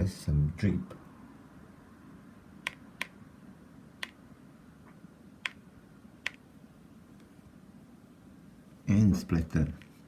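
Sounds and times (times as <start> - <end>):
low room hiss: 0.0 - 10.0.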